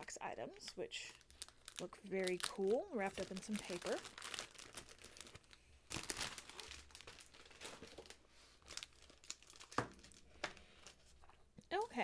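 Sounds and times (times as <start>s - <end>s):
paper wrapping crinkling: 0.6s - 11.5s.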